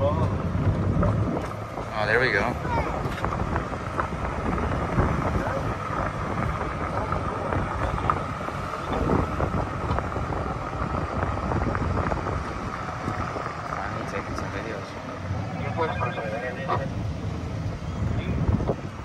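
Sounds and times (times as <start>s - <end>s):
tyres on paved path: 0.0s - 19.0s
wind buffeting microphone: 0.0s - 19.0s.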